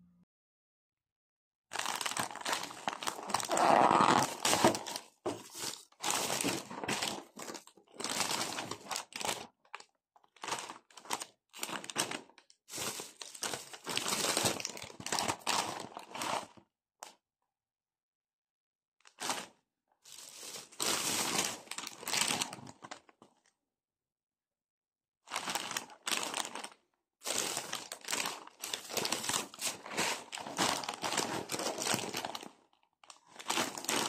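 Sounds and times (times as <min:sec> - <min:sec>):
plastic bag and packets crinkling: 0:01.7 - 0:16.6, 0:19.1 - 0:23.5, 0:25.3 - 0:34.0.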